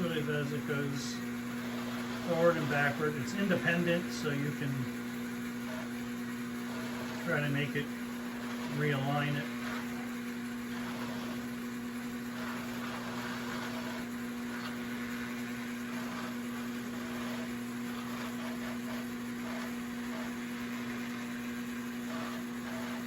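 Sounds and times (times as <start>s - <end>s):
electric motor humming: 0.0s - 23.0s.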